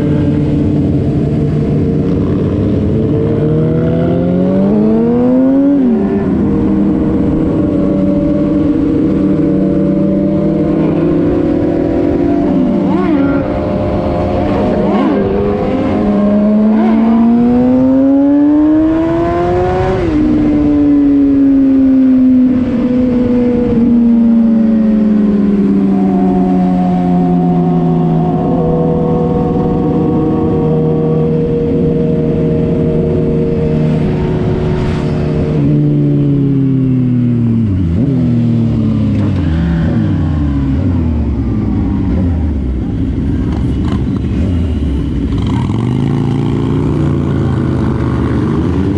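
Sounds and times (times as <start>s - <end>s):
vehicle engine revving and shifting: 0.0s - 48.9s.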